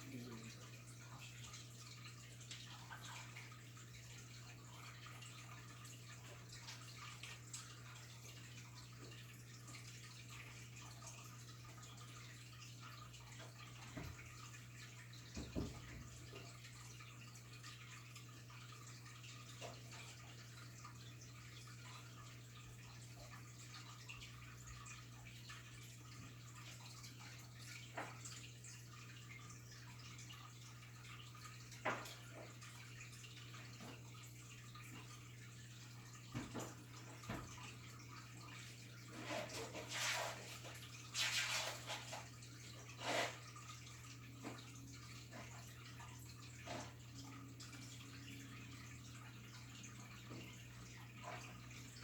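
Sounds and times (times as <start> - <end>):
faint water trickle: 0.0 - 52.0.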